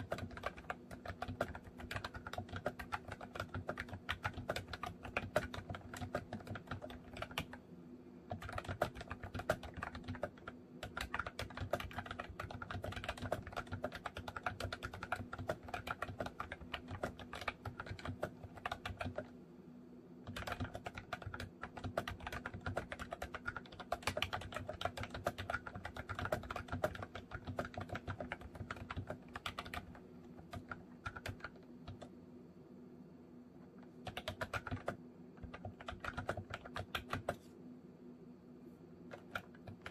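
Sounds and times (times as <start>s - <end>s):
fast typing on keyboard: 0.0s - 7.6s, 8.3s - 19.4s, 20.2s - 32.1s, 34.0s - 37.4s, 39.1s - 39.9s.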